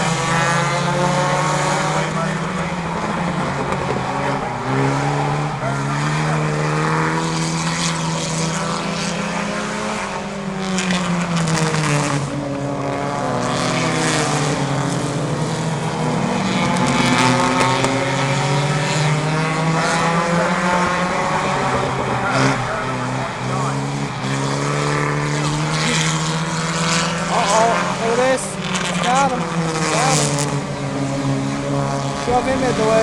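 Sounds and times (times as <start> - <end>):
race car engines: 0.0 - 33.0.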